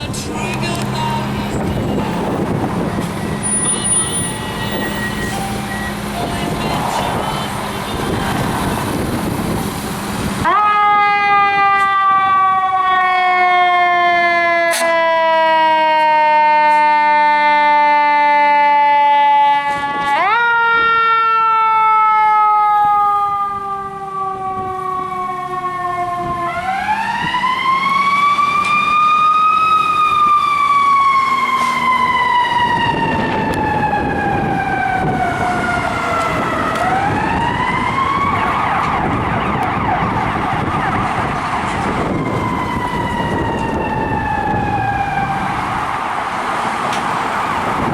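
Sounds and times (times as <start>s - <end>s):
fire truck siren: 0.0s - 47.9s
vehicle and road noise: 0.0s - 47.9s.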